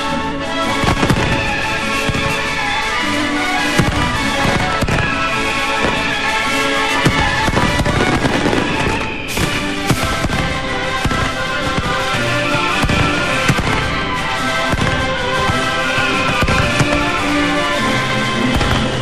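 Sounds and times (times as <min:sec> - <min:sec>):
fireworks and firecrackers banging: 0:00.0 - 0:19.0
music playing: 0:00.0 - 0:19.0.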